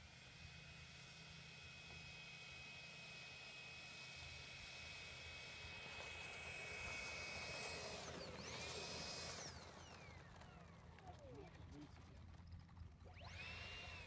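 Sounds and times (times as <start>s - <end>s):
model jet engine whining: 0.0s - 14.0s.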